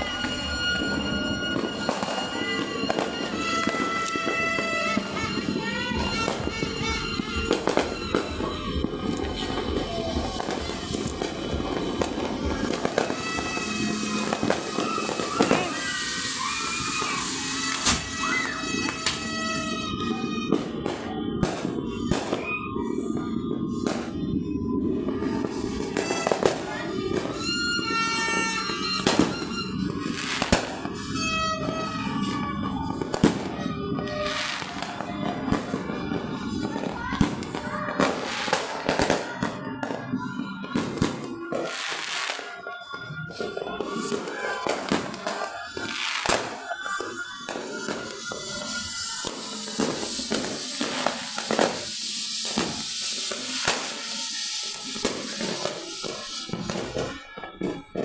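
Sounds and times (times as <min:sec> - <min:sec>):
distant firework bangs: 0:00.0 - 0:58.0
loud firework bangs: 0:00.0 - 0:58.0.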